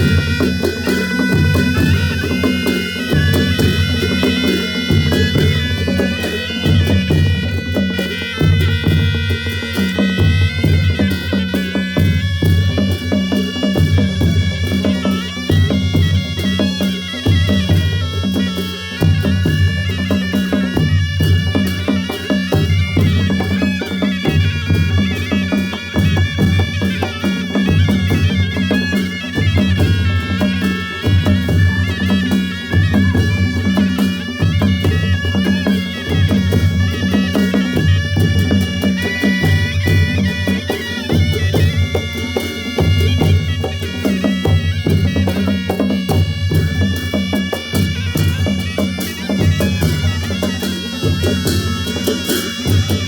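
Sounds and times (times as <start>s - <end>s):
nasal reed wind melody: 0.0s - 53.0s
sharp percussive strikes: 0.0s - 53.0s
steady drum beat: 0.0s - 53.0s.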